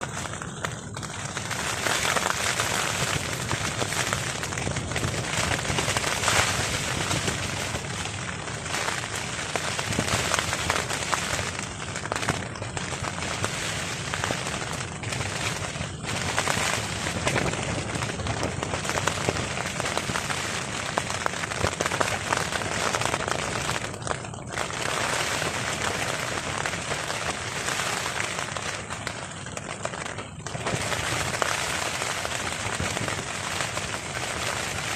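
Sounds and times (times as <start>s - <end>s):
heavy rain on a tarp: 0.0s - 34.9s
strong wind: 0.0s - 34.9s.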